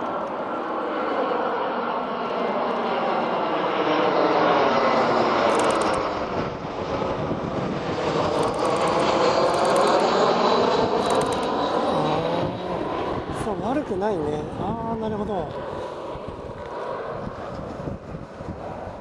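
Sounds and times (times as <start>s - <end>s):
jet airliner passing overhead: 0.0s - 19.0s.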